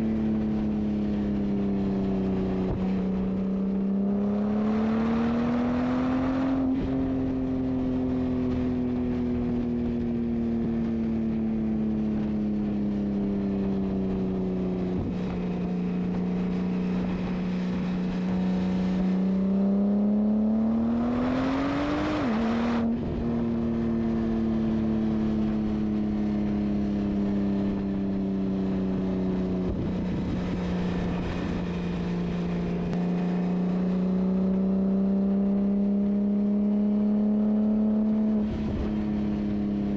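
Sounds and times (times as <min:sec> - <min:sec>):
car engine through exhaust: 0:00.0 - 0:39.9.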